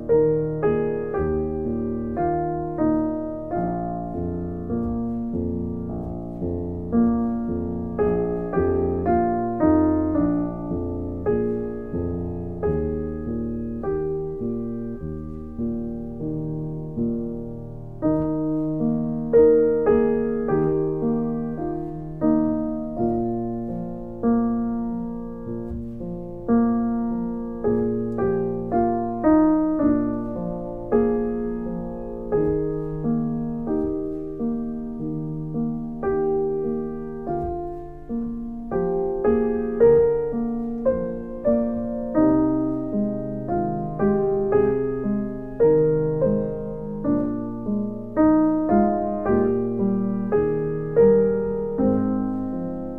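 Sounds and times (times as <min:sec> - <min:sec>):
gentle piano music: 0:00.0 - 0:52.9.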